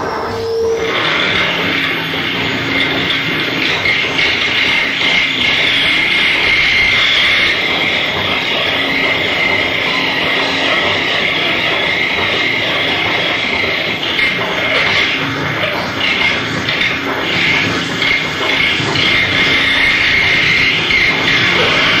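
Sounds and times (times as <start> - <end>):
harsh noise music: 0.0 - 22.0
steady high whine: 0.0 - 22.0.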